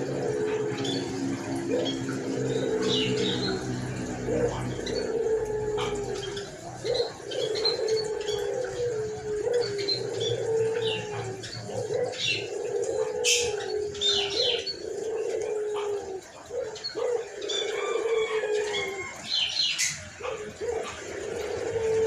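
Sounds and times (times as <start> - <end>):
dove cooing hoarsely: 0.0 - 22.0
small birds chirping: 0.0 - 22.0.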